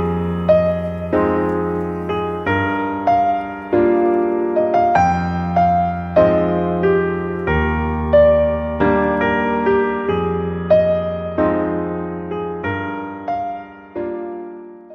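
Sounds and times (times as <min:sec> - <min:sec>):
instrumental music: 0:00.0 - 0:14.9.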